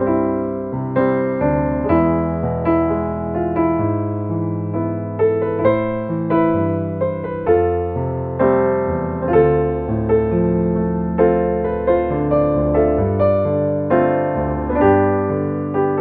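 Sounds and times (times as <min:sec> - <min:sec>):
slow solo piano ballad: 0:00.0 - 0:16.0.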